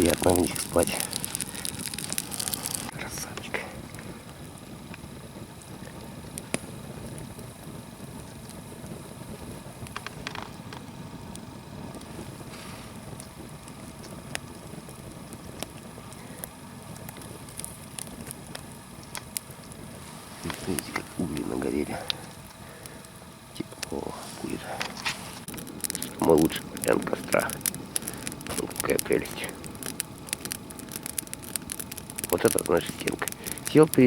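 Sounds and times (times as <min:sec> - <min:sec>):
campfire crackling and popping: 0:00.0 - 0:34.0
steady low background noise: 0:00.0 - 0:34.0.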